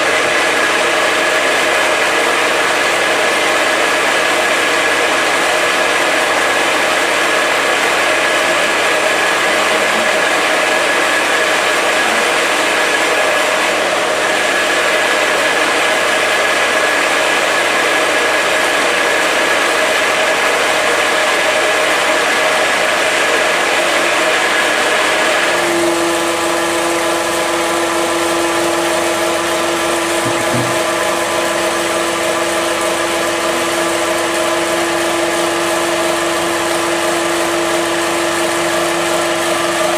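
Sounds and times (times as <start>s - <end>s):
pellet mill machine hum: 0.0s - 39.9s.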